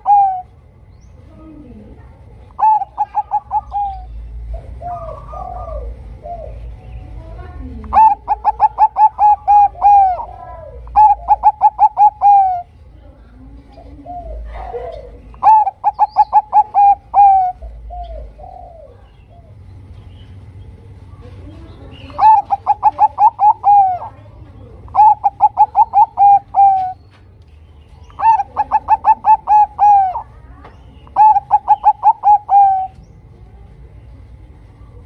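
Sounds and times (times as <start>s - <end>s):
dove cooing: 0.0s - 0.7s, 1.3s - 19.7s, 20.9s - 27.2s, 28.0s - 34.3s.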